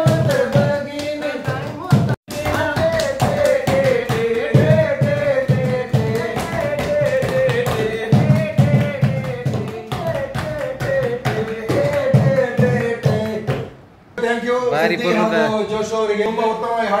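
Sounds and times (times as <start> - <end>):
beating drum: 0.0 - 13.7
sharp taps or claps: 0.0 - 13.8.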